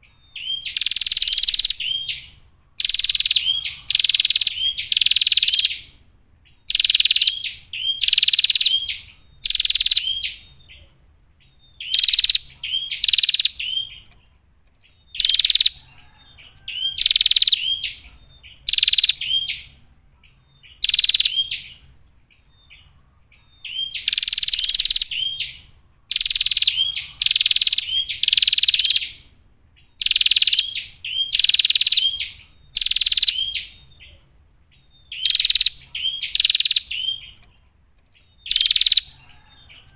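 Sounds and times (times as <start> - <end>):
bird calling in harsh bursts: 0.0 - 6.0, 6.6 - 10.9, 11.5 - 14.2, 15.0 - 19.8, 20.6 - 21.9, 23.4 - 34.2, 34.8 - 37.4, 38.4 - 39.9.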